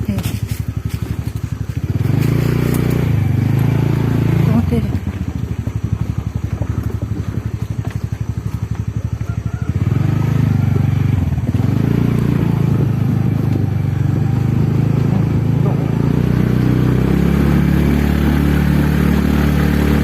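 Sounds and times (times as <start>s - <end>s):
scooter engine putting: 0.0s - 20.0s.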